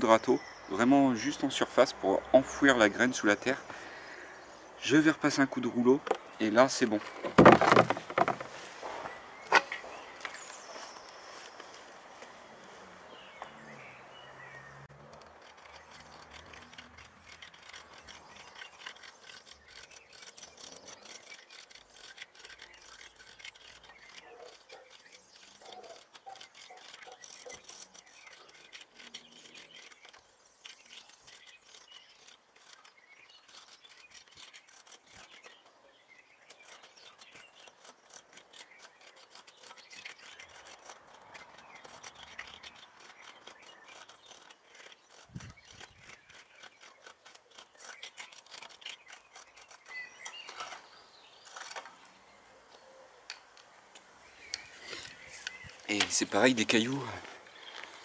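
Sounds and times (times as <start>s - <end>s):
rake scraping over soil: 4.8s - 52.3s, 54.2s - 58.0s.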